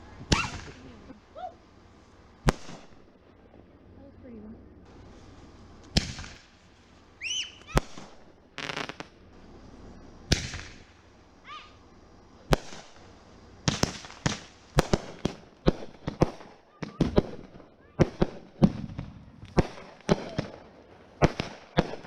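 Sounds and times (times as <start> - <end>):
firework bangs: 0.0 - 22.0
firework crackle: 0.0 - 22.0.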